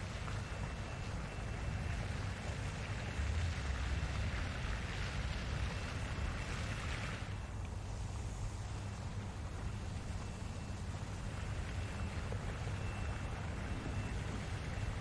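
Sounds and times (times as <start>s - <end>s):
low wind rumble: 0.0s - 15.0s.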